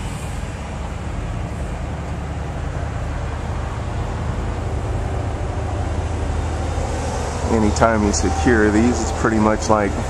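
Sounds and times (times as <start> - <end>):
diesel truck engines idling: 0.0 - 10.0.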